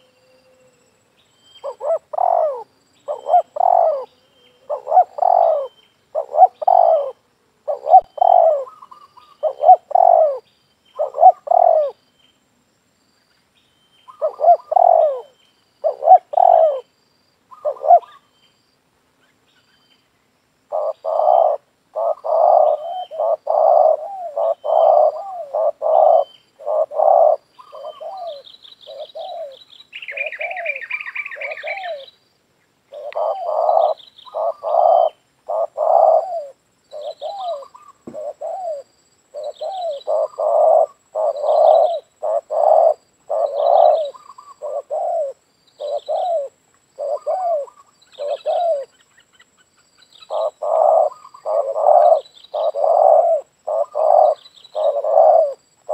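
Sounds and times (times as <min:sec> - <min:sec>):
bird trill: 0:00.0 - 0:12.3, 0:13.7 - 0:16.8, 0:17.5 - 0:18.6, 0:20.7 - 0:32.2, 0:32.9 - 0:55.9
small birds chirping: 0:01.1 - 0:12.5, 0:13.1 - 0:55.9
doves cooing: 0:01.6 - 0:10.4, 0:11.0 - 0:12.0, 0:14.1 - 0:16.8, 0:17.5 - 0:18.2, 0:20.7 - 0:32.1, 0:32.9 - 0:49.0, 0:50.3 - 0:55.9.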